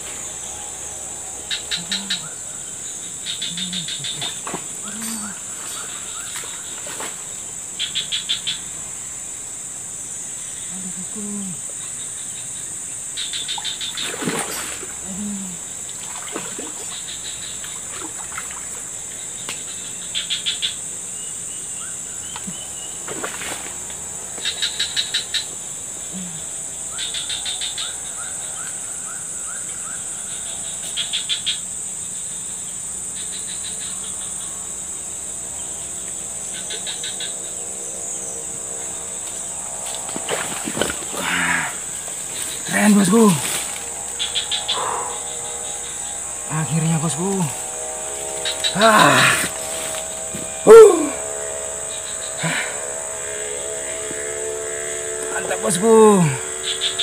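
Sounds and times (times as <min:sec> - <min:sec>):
insects droning: 0:00.0 - 0:57.0
pulsed insect chirps: 0:00.0 - 0:57.0.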